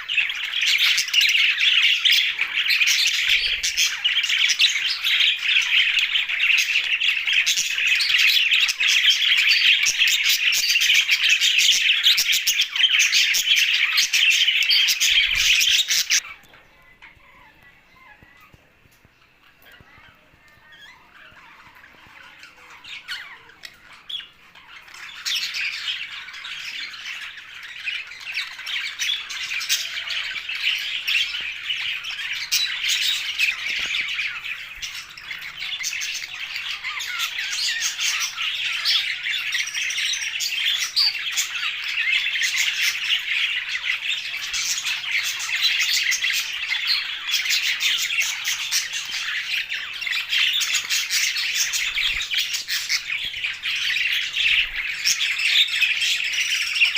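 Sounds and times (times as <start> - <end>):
budgerigars chattering and squawking: 0.0 - 56.9.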